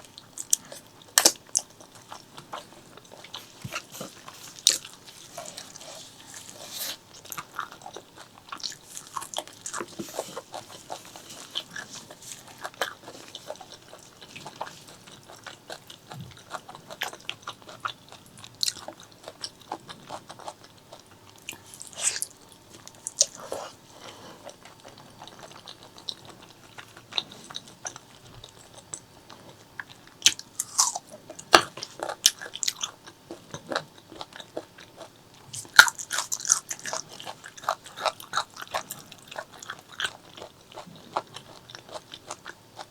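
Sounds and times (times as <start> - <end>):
chewing and biting mouth sounds: 0.0 - 42.9.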